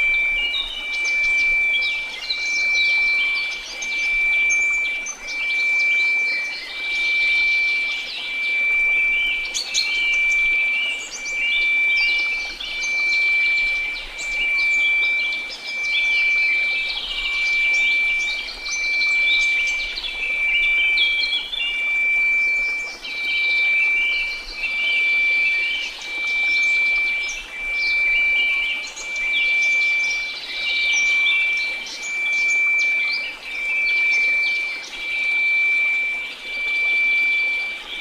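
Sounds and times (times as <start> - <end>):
birds chirping: 0.0 - 38.0
pulsing sine tone: 0.0 - 38.0.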